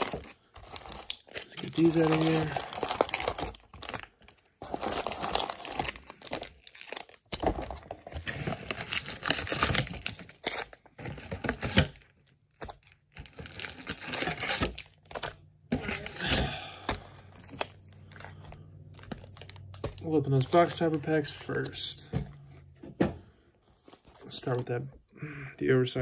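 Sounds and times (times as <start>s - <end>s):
foil packs crinkling: 0.0s - 22.0s.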